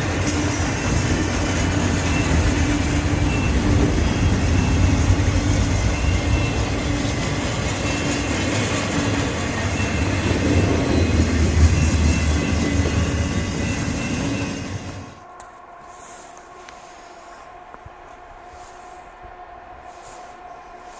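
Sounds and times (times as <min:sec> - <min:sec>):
faint high whines: 0:00.0 - 0:20.9
freight train wheels rumbling on rails: 0:00.0 - 0:20.9.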